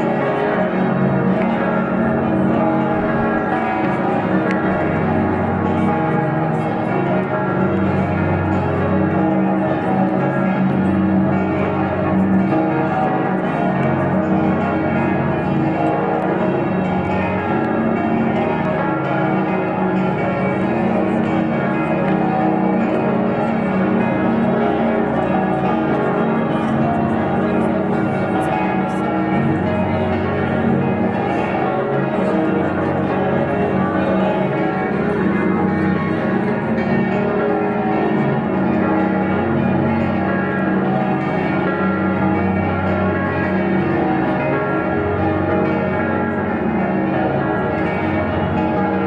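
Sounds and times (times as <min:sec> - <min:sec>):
church bells ringing: 0:00.0 - 0:49.0.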